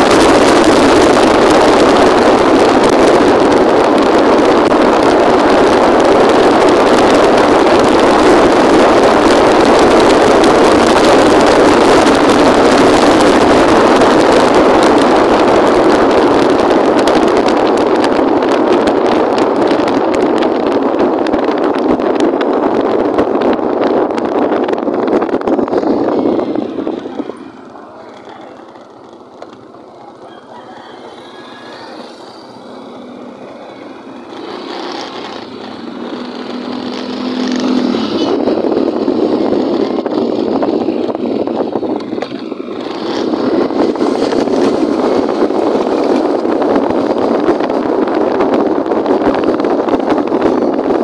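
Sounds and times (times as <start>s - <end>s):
motorcycle engine and road noise: 0.0s - 51.0s
wind rushing over microphone: 0.0s - 51.0s.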